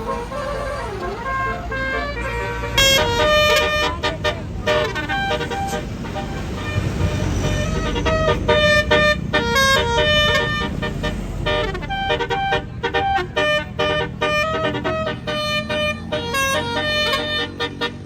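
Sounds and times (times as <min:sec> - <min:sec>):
bus engine running: 0:00.0 - 0:18.0
multi-tone bus horn tune: 0:00.0 - 0:18.0.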